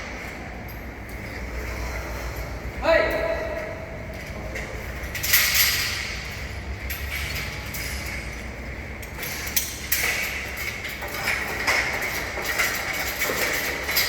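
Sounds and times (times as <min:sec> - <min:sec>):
scaffolding parts clattering: 0:00.0 - 0:14.0.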